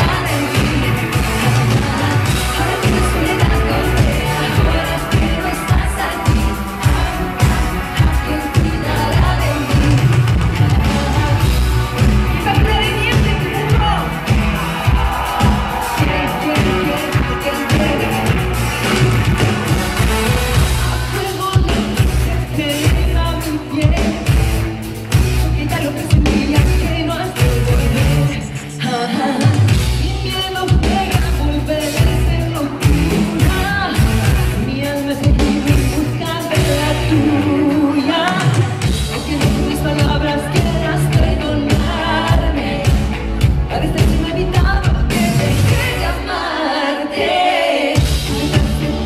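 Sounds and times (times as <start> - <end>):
woman singing into a microphone: 0.0 - 14.5, 15.3 - 19.2, 20.6 - 24.4, 25.4 - 49.0
live pop band playing: 0.0 - 49.0.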